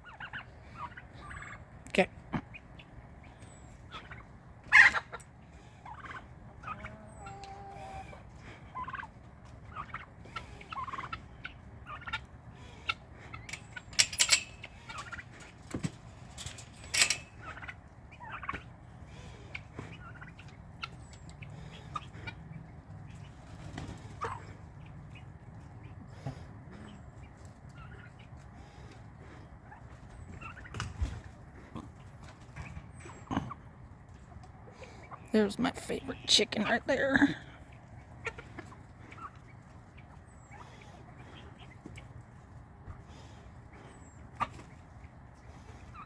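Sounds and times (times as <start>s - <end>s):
poultry calling: 0.0s - 1.8s, 2.4s - 46.0s
turkeys gobbling: 0.0s - 46.0s.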